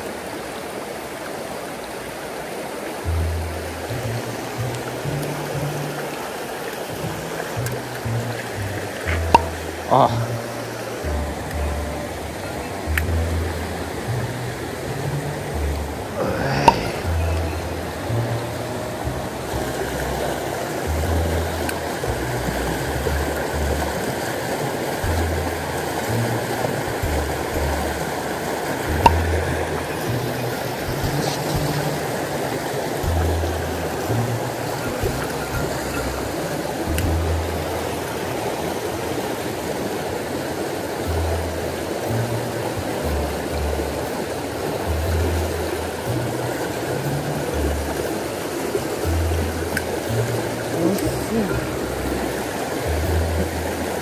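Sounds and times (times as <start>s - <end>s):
stream rushing over rocks: 0.0s - 54.0s
background music bass line: 3.0s - 54.0s.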